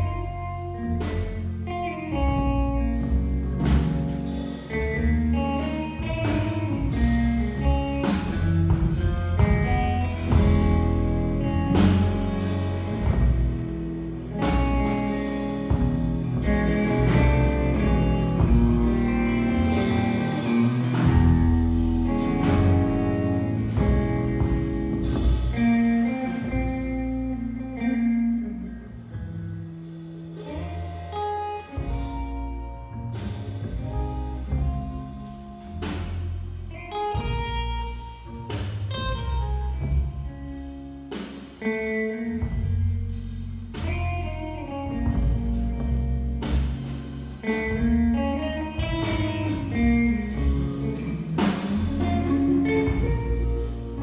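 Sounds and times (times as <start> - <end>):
bass: 0.0 - 54.0
drum kit: 0.0 - 54.0
electric guitar melody: 0.0 - 54.0.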